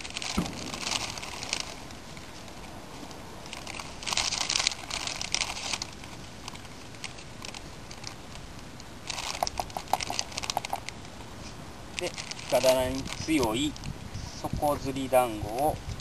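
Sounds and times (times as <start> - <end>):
plastic bags crinkling: 0.0 - 11.0, 12.0 - 13.9.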